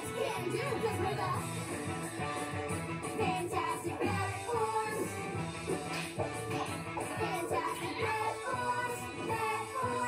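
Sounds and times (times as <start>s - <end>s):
upbeat song from television: 0.0s - 10.0s.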